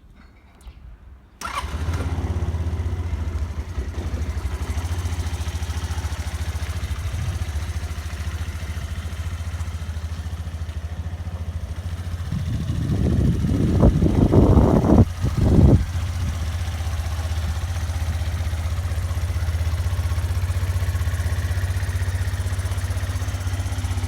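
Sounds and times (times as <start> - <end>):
scooter engine starting and idling: 1.4 - 24.0.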